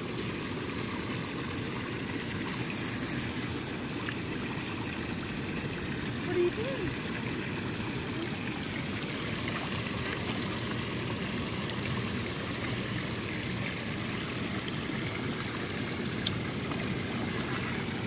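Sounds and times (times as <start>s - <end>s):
hot tub jets bubbling: 0.0s - 18.0s
waterfall spout pouring: 0.0s - 18.0s.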